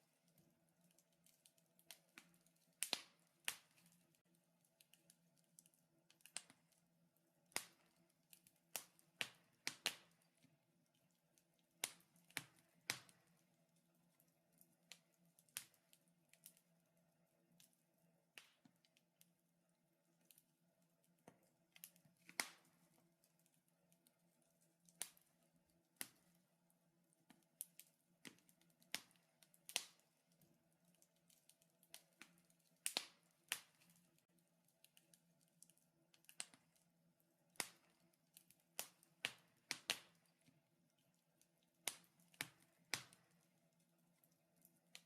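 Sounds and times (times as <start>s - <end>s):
wood fire crackling: 0.0s - 19.4s, 20.0s - 45.0s.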